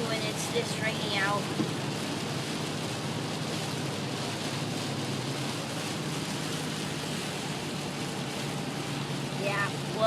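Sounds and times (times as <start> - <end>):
low engine hum: 0.0 - 10.0
rain and wet road hiss: 0.0 - 10.0.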